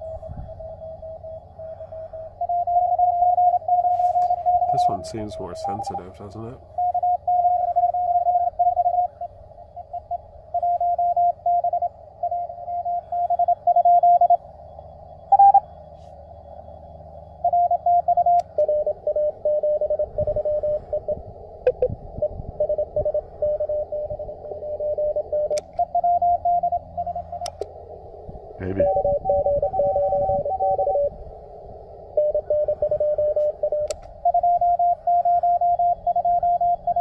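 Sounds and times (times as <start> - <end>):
morse code tones: 0.0 - 14.4, 15.2 - 15.8, 17.3 - 27.6, 28.4 - 31.2, 32.1 - 37.0
receiver hiss: 0.0 - 37.0.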